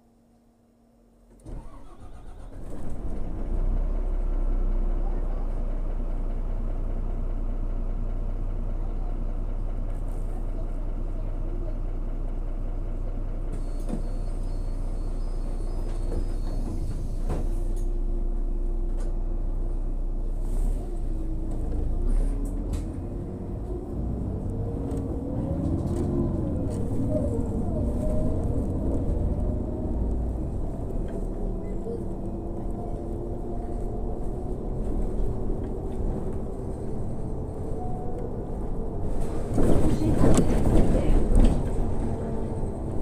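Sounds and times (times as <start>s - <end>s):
bus engine idling: 0.0s - 43.0s.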